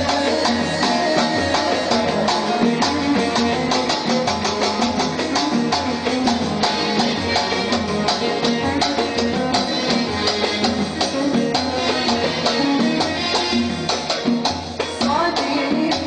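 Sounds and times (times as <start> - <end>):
hand drums and percussion: 0.0 - 16.0
keyboard: 0.0 - 16.0.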